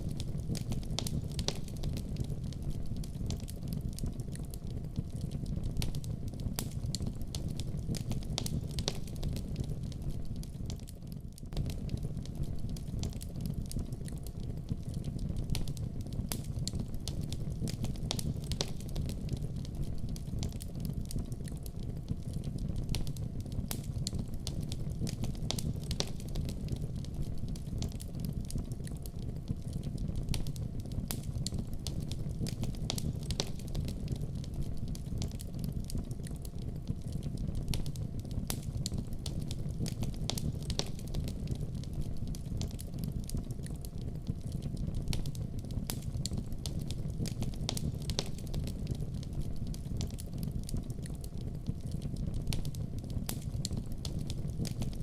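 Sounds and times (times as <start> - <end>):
fire popping and snapping: 0.0 - 55.0
low rumble of flames: 0.0 - 55.0.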